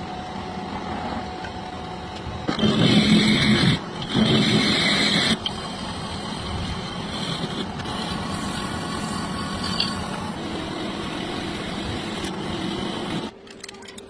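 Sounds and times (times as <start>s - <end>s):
machine running: 0.0s - 13.7s.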